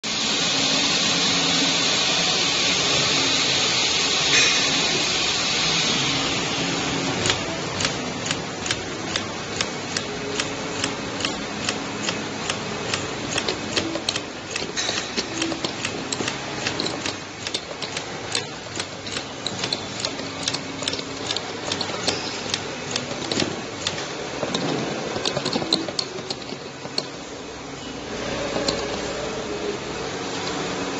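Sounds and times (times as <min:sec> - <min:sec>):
conveyor machine running: 0:00.0 - 0:30.9.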